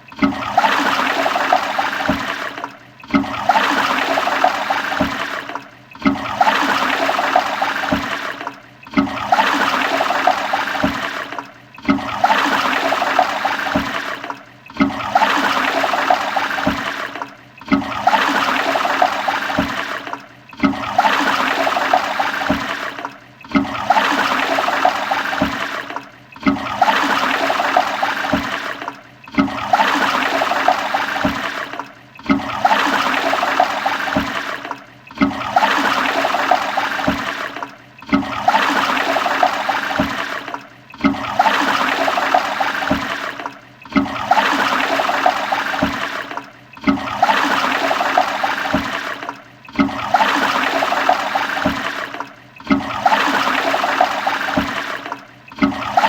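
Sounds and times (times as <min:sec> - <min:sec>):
toilet flushing: 0:00.0 - 0:56.0.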